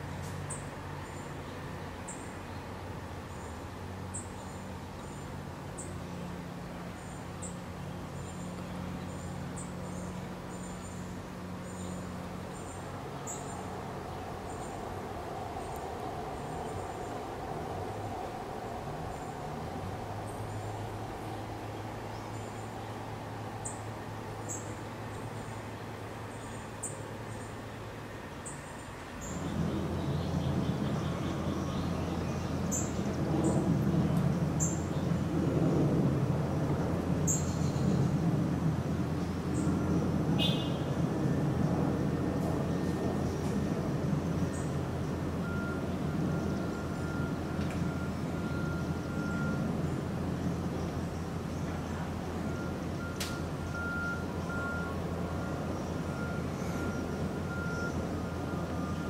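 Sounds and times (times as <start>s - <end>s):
steady background hiss: 0.0s - 59.0s.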